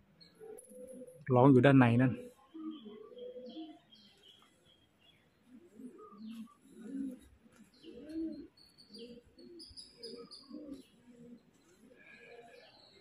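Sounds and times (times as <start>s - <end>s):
pigeons cooing: 0.0s - 1.2s, 2.2s - 13.0s.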